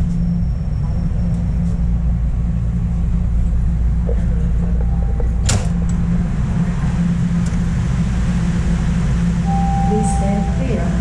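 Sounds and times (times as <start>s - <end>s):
subway car humming: 0.0s - 11.0s.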